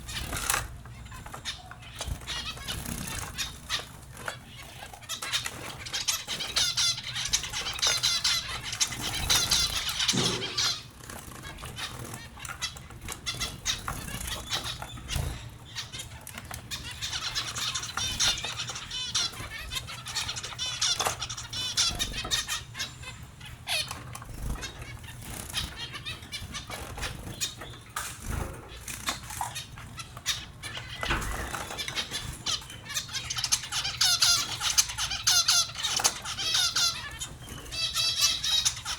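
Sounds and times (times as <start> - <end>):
finches twittering: 0.0 - 38.9.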